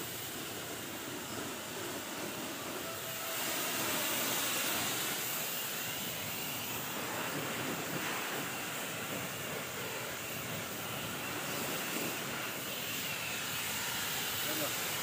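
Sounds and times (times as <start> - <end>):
pressure washer spraying: 0.0 - 15.0.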